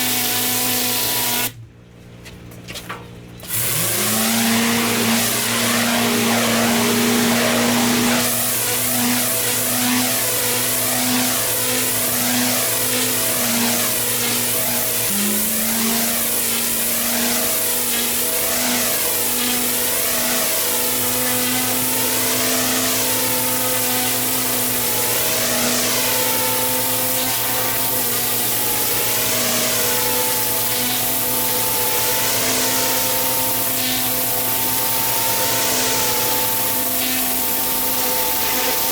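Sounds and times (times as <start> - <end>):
pressure washer engine running: 3.4 - 38.9.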